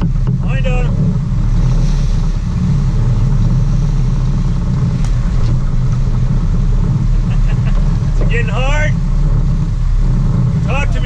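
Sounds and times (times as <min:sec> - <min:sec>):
boat engines rumbling: 0:00.0 - 0:11.0
water churning and splashing: 0:00.0 - 0:11.0.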